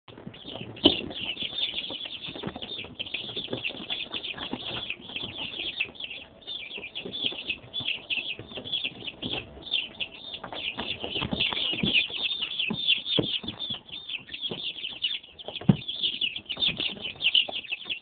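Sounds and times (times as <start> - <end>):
chicks peeping: 0.1 - 18.0.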